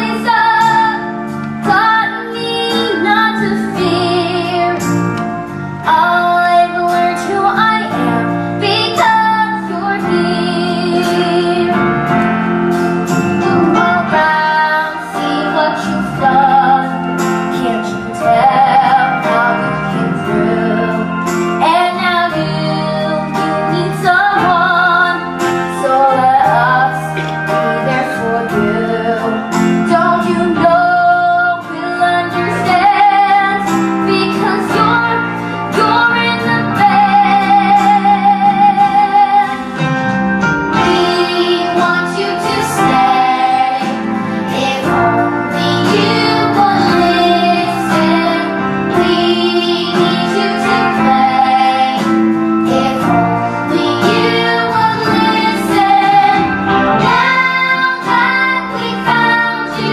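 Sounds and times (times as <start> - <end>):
guitar accompaniment: 0.0 - 59.9.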